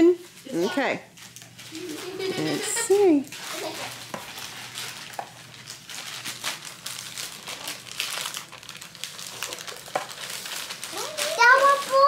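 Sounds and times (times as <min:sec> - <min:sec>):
plastic mailer bag crinkling: 0:01.1 - 0:12.0.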